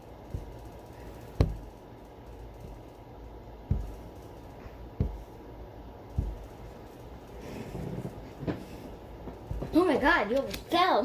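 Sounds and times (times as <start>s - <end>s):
faint room noise: 0.0s - 11.0s
dull thumps: 0.1s - 10.4s.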